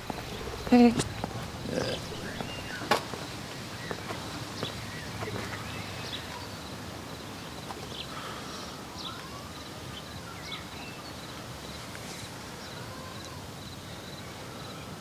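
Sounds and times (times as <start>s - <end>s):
low outdoor background noise: 0.0s - 15.0s
small birds chirping: 0.0s - 15.0s.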